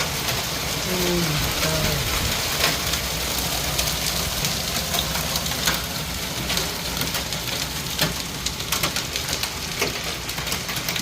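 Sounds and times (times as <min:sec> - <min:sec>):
hail falling hard: 0:00.0 - 0:11.0
hailstones clicking: 0:00.0 - 0:11.0.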